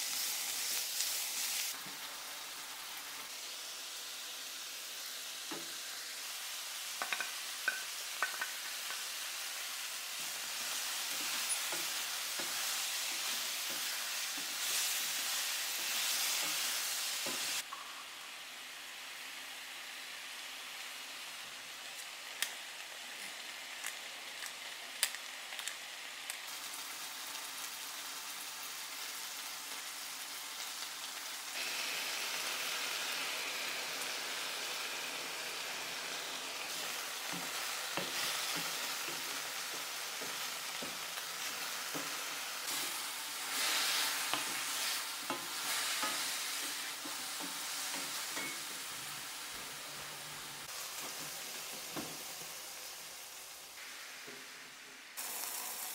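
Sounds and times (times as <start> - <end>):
food sizzling in a wok: 0.0 - 55.9.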